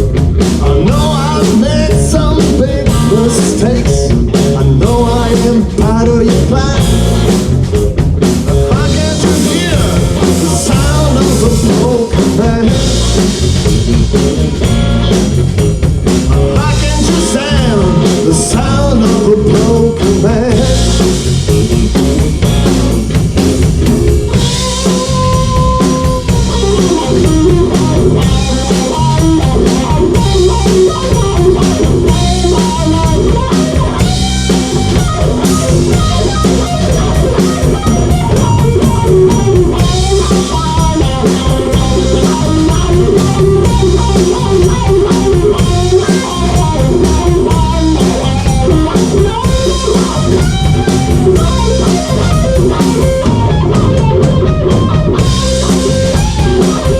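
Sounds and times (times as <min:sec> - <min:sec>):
blues band playing: 0:00.0 - 0:56.9
lead guitar with bent notes: 0:00.0 - 0:56.9.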